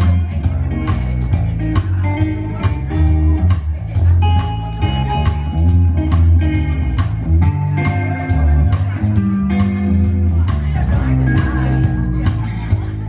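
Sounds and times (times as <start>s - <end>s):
double bass thumping: 0.0s - 13.0s
electric guitar melody: 0.0s - 13.0s
rockabilly band playing: 0.0s - 13.0s.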